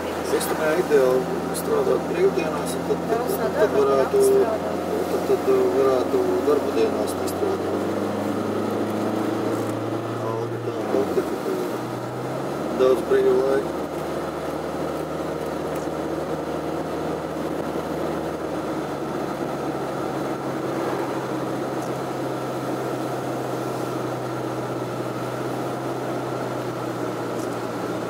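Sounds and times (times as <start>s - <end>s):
car engine and tyres droning: 0.0s - 28.0s.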